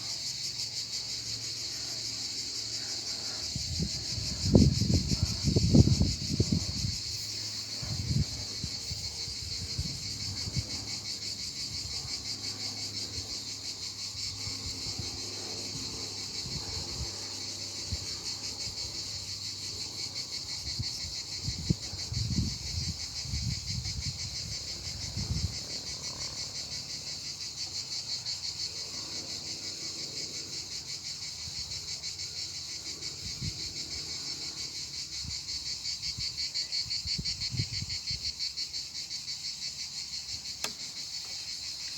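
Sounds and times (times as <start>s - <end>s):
fast-pulsing insect chorus: 0.0s - 41.9s.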